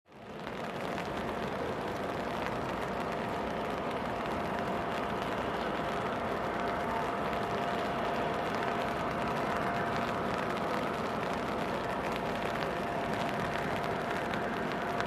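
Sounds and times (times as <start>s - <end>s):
faint steady whine: 0.1s - 15.0s
heavy rain hissing: 0.5s - 15.0s.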